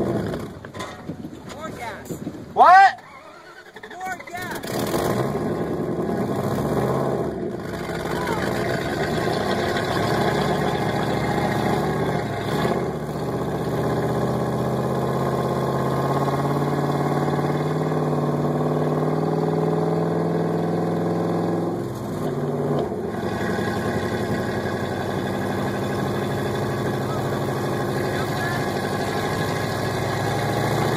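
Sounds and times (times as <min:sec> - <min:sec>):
vehicle engine running: 0:03.3 - 0:30.9.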